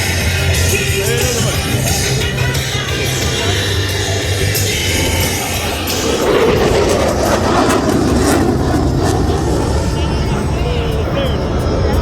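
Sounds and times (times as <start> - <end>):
fighter jet roaring past: 0.0 - 12.0.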